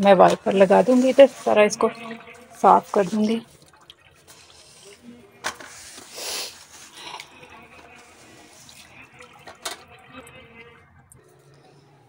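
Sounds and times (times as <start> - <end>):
squeegee scraping wet tiled floor: 0.0 - 11.1.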